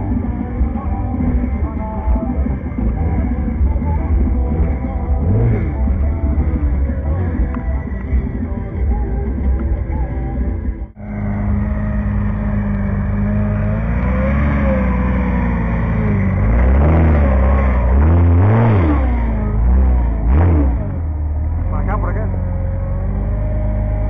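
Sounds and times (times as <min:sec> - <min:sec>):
buggy engine revving: 0:00.0 - 0:24.0.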